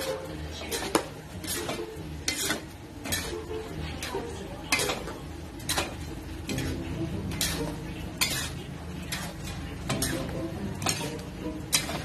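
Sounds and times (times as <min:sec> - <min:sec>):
metal utensils scraping a wok: 0:00.0 - 0:12.0.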